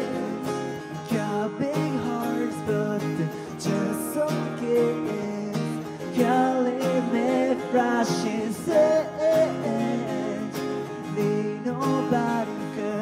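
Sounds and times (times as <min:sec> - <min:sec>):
acoustic guitars strumming: 0:00.0 - 0:13.0
man singing into a microphone: 0:00.0 - 0:13.0.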